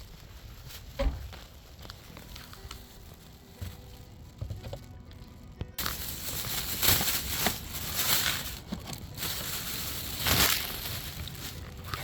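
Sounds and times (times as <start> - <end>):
rustling crinkling handling noise: 0.0 - 12.0.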